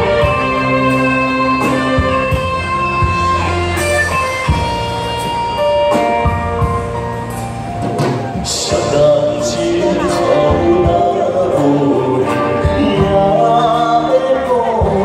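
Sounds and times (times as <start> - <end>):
bass: 0.0 - 15.0
guitar leading: 0.0 - 15.0
held keyboard notes: 0.0 - 15.0.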